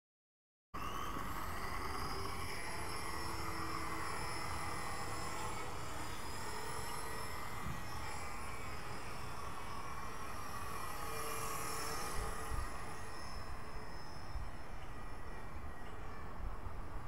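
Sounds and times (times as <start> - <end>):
rc helicopter whining: 0.8 - 17.0.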